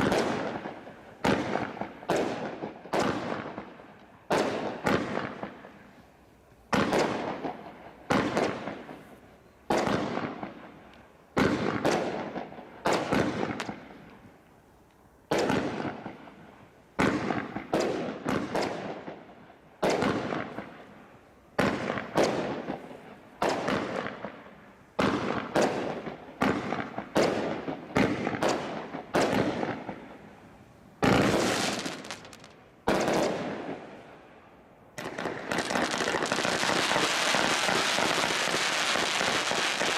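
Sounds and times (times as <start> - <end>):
firework bangs with crackling tails: 0.0 - 5.8, 6.7 - 9.1, 9.7 - 10.8, 11.4 - 14.2, 15.3 - 16.4, 17.0 - 20.9, 21.6 - 30.2, 31.0 - 34.0, 35.0 - 39.9.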